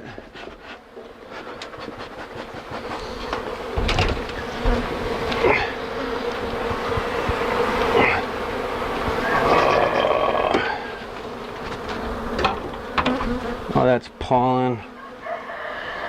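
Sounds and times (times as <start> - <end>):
bees buzzing loudly: 0.0 - 16.0.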